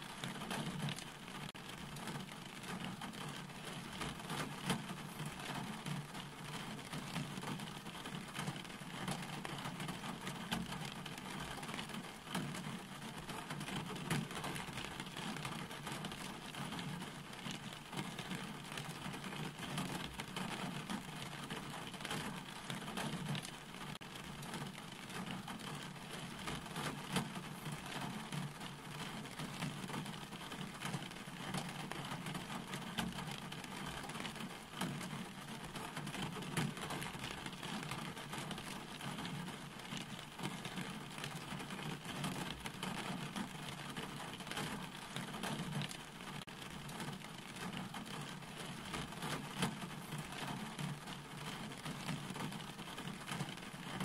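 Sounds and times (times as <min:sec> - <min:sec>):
rain falling: 0:00.0 - 0:54.0
raindrops ticking close by: 0:00.0 - 0:54.0.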